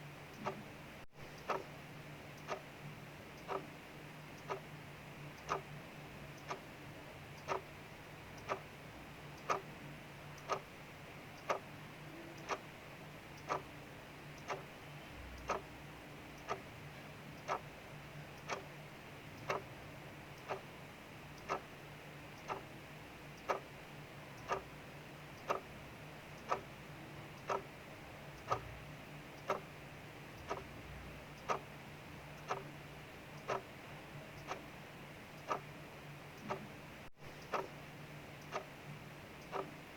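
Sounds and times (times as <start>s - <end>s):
mechanical clock ticking: 0.2s - 39.9s.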